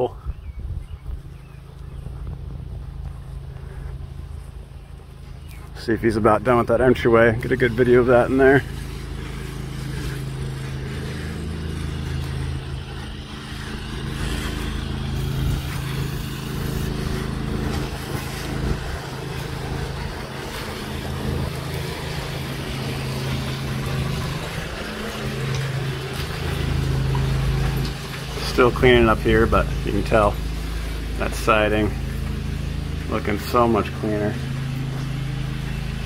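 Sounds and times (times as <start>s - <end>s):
engine and pump droning: 0.0s - 36.0s
water spraying from hose: 2.3s - 36.0s.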